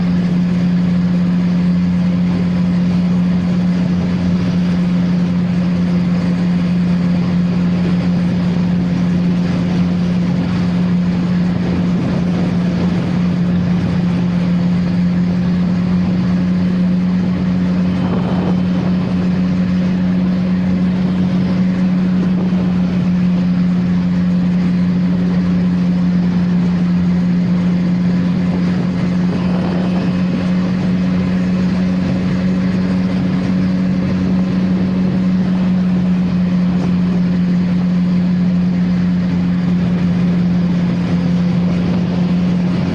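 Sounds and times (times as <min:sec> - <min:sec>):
rush of riding noise: 0:00.0 - 0:42.9.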